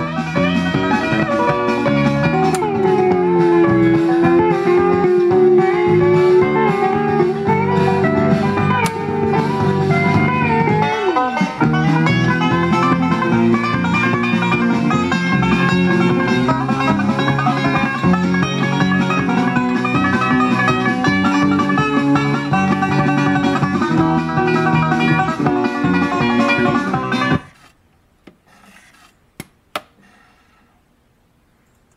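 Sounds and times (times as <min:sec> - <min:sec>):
blues guitar record: 0:00.0 - 0:27.6.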